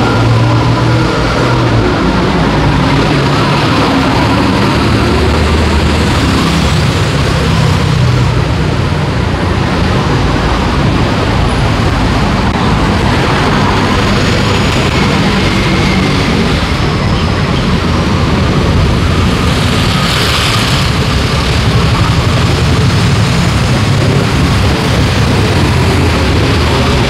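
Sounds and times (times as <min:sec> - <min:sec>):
bus engine passing: 0:00.0 - 0:27.0
road traffic: 0:00.0 - 0:27.0.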